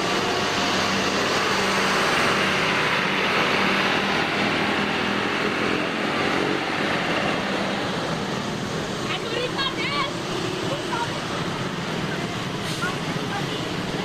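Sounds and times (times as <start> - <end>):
large vehicle engine and tyres: 0.0 - 14.0.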